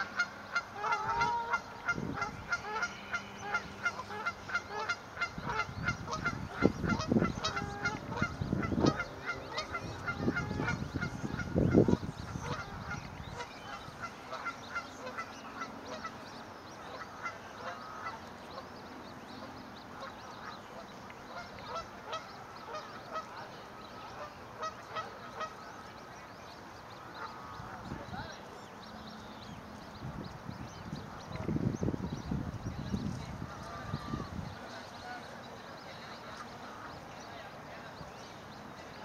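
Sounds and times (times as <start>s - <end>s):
cygnets peeping: 0.0s - 39.0s.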